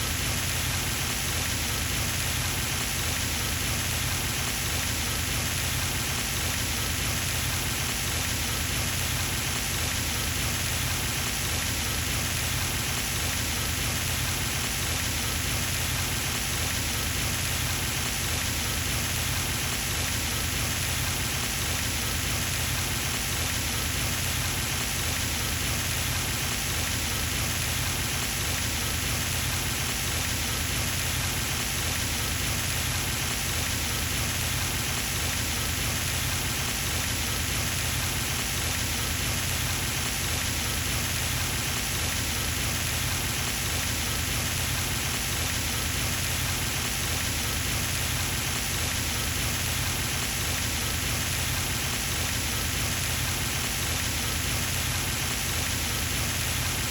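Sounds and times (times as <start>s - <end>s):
fountain water splashing: 0.1s - 56.9s.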